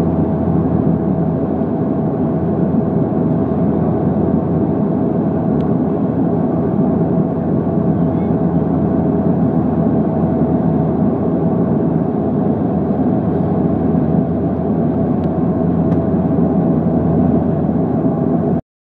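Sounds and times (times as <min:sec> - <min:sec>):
airliner cabin engine and airflow rush: 0:00.0 - 0:18.6.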